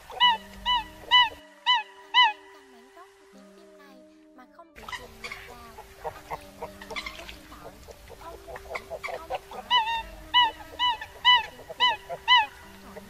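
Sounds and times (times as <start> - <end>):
coots calling: 0.0 - 3.1, 4.8 - 13.0.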